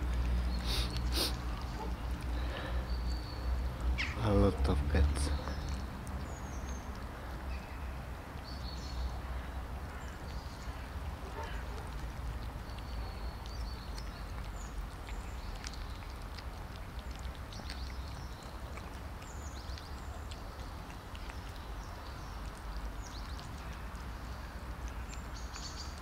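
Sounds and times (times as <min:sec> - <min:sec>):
cats chewing and licking: 0:00.0 - 0:26.0.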